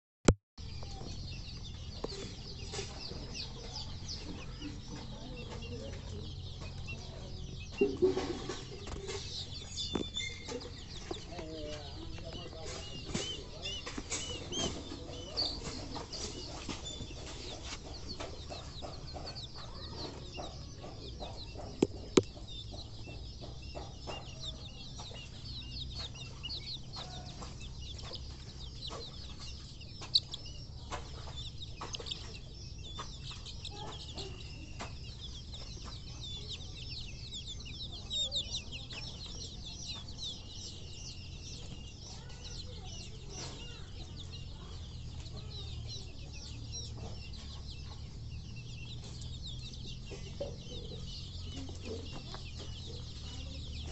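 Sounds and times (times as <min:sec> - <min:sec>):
chicks peeping: 0:00.6 - 0:53.9.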